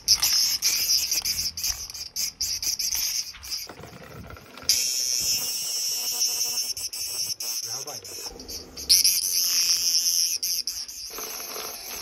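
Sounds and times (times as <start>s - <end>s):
cicadas buzzing: 0.0s - 3.7s, 4.6s - 12.0s.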